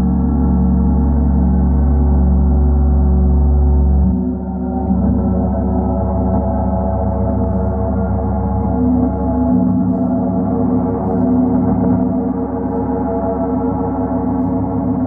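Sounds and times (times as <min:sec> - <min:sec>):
deep low hum: 0:00.0 - 0:15.0.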